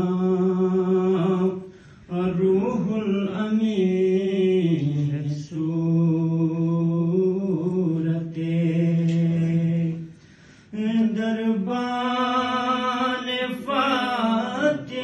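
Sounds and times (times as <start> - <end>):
man chanting devotional poem: 0.0 - 10.1, 10.7 - 15.0.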